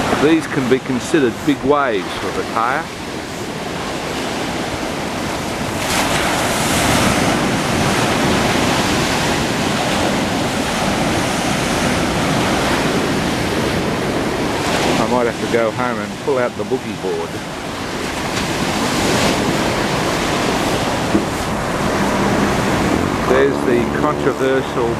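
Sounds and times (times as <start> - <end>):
sea waves breaking: 0.0 - 24.9
wind buffeting microphone: 0.0 - 24.9.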